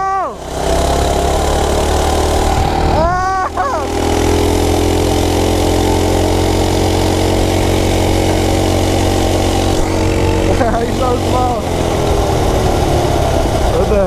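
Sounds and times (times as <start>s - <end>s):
mini bike engine running: 0.0s - 14.0s
rising and falling tone: 0.0s - 14.0s.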